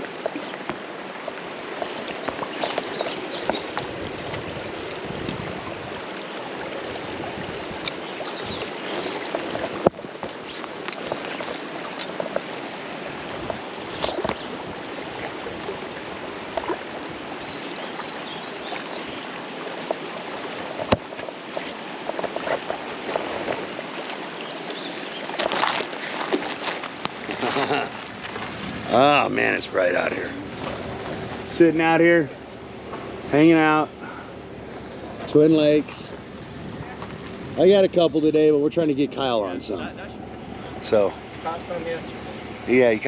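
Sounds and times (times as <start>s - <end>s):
creek water flowing: 0.0s - 43.0s.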